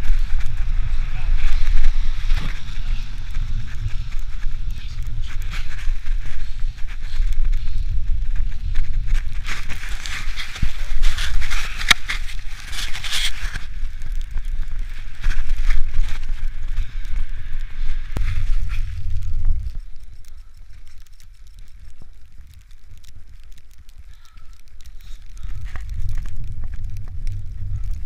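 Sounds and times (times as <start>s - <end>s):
rumble from wet road: 0.0s - 28.0s
wind buffeting microphone: 0.0s - 28.0s.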